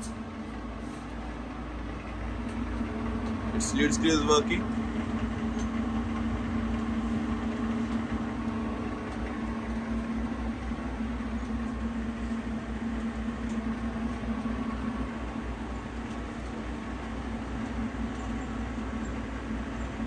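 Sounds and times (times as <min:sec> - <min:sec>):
lathe humming: 0:00.1 - 0:20.0.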